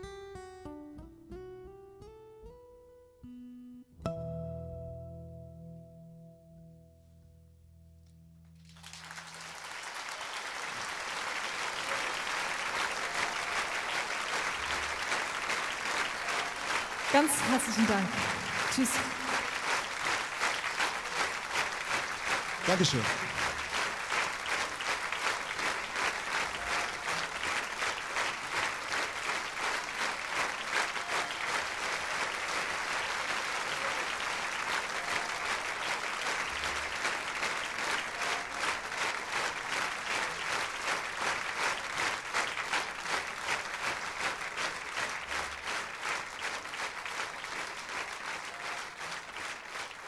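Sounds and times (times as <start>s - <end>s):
audience applauding: 8.6s - 50.0s.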